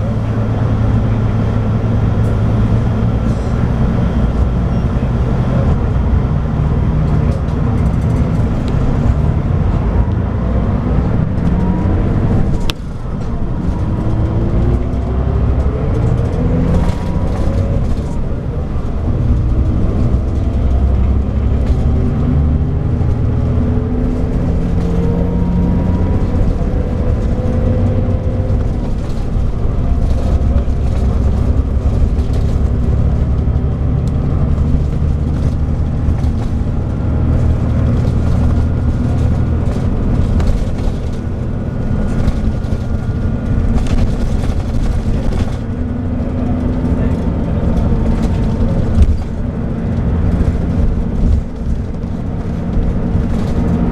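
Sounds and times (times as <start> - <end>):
bus diesel engine running: 0.0 - 53.9
road noise: 0.0 - 53.9.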